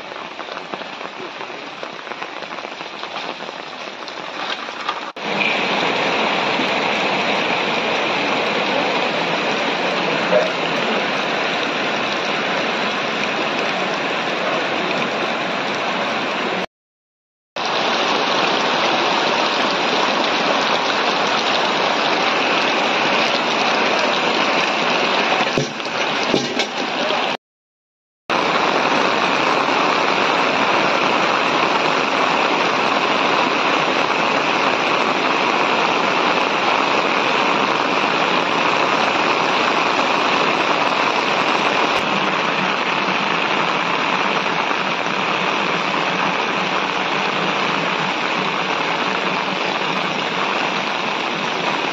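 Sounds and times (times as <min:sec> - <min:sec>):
heavy rain on standing water: 0:00.0 - 0:16.7, 0:17.6 - 0:27.4, 0:28.3 - 0:51.9.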